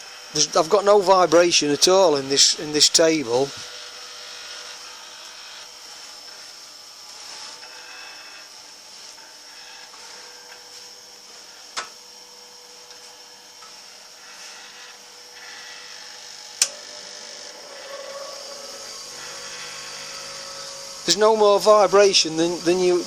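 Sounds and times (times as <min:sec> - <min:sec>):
bench grinder motor running: 0:00.0 - 0:23.0.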